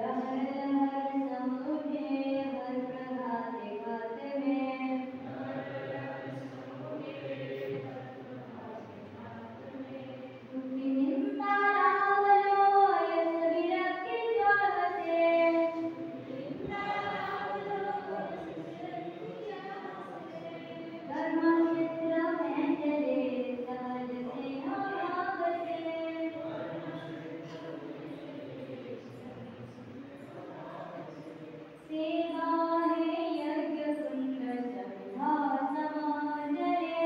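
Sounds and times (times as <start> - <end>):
young voices singing together: 0.0 - 37.0.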